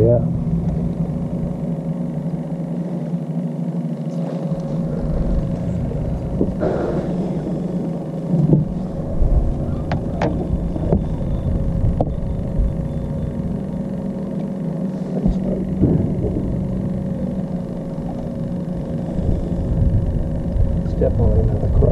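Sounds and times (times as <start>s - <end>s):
boat motor running: 0.0s - 21.9s
low rumble: 0.0s - 21.9s.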